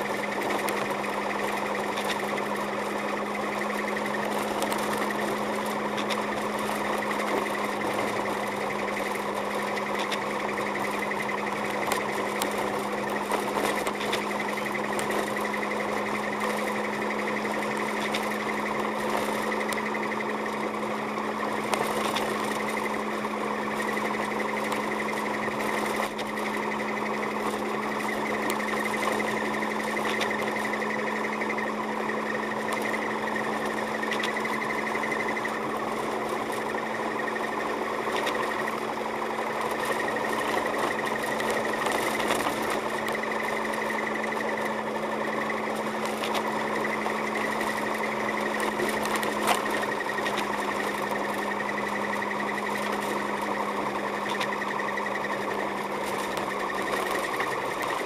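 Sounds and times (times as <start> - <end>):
faint ticks: 0.0 - 20.7, 21.3 - 58.0
car engine and road hum: 0.0 - 58.0.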